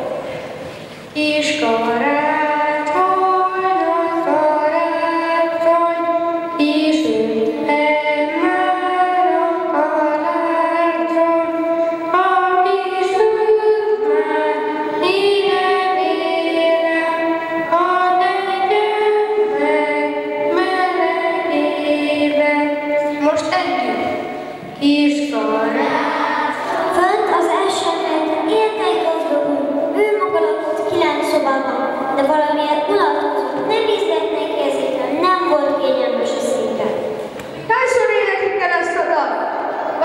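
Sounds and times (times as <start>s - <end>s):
children singing into microphones: 0.0s - 37.6s, 39.4s - 40.0s.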